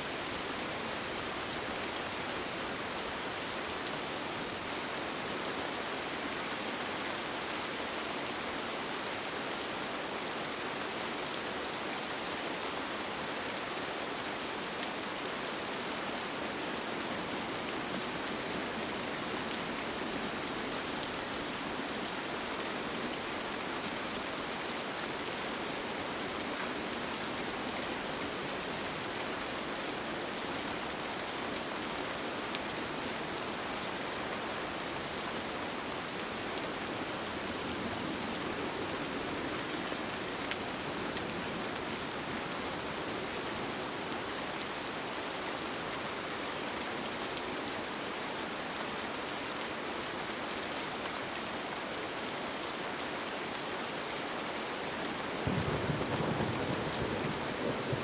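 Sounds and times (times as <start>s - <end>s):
rain on a tent: 0.0s - 58.0s.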